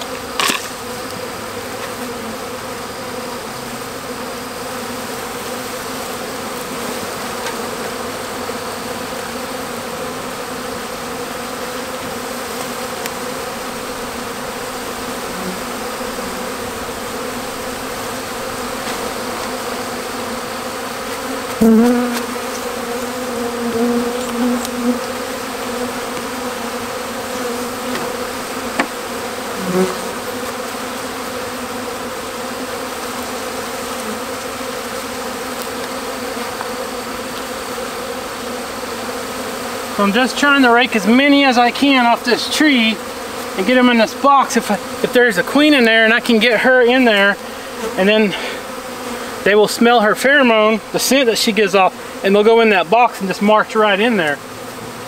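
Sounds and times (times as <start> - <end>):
bee swarm buzzing: 0.0 - 55.0.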